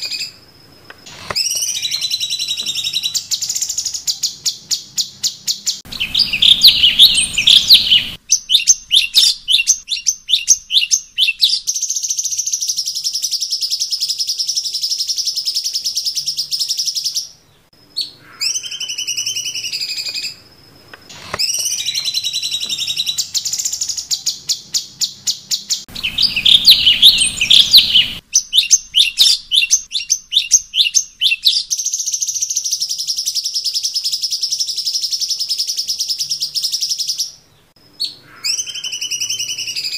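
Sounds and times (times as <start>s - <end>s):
bird singing trills and buzzing: 0.0s - 20.5s, 21.1s - 39.9s.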